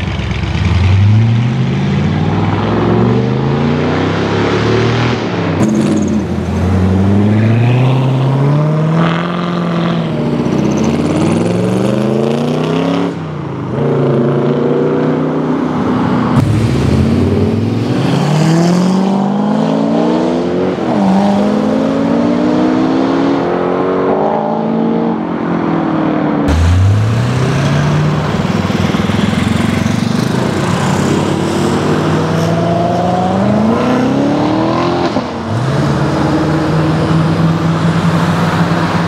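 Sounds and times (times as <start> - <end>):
car engines accelerating: 0.0 - 39.0.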